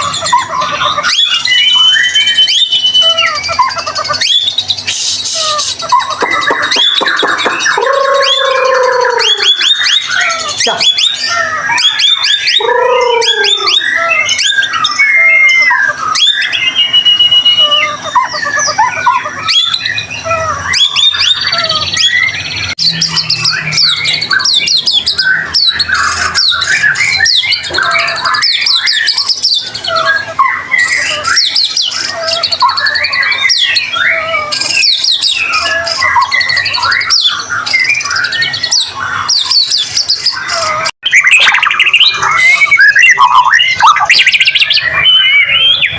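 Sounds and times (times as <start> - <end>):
songbird whistling and trilling: 0.0 - 45.9.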